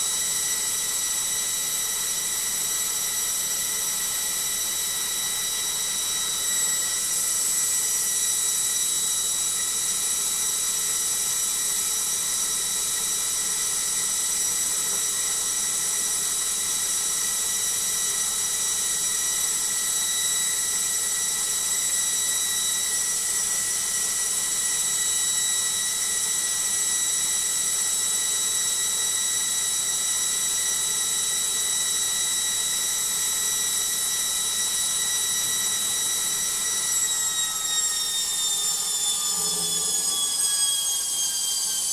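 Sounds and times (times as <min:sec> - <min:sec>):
washing machine motor whining: 0:00.1 - 0:41.9.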